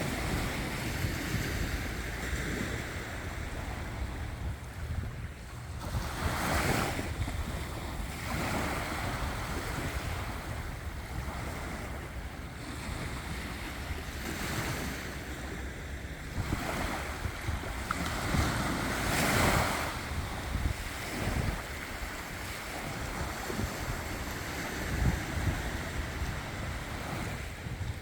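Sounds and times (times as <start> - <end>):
waves breaking on shore: 0.0 - 28.0
wind rumble on microphone: 0.0 - 28.0.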